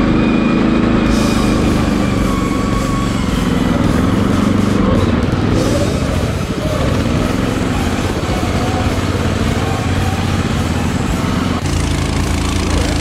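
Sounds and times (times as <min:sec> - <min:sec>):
small mower engine running: 0:00.0 - 0:13.0.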